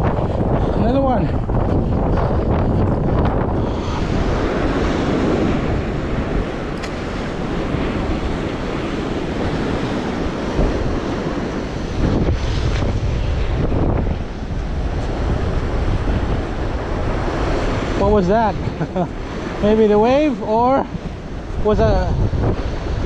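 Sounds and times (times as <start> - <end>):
waves washing against rocks: 0.0 - 23.0
wind buffeting microphone: 0.0 - 23.0.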